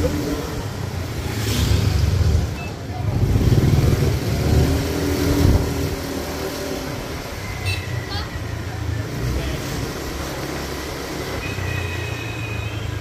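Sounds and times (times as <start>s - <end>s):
motor scooter rumble: 0.0s - 13.0s.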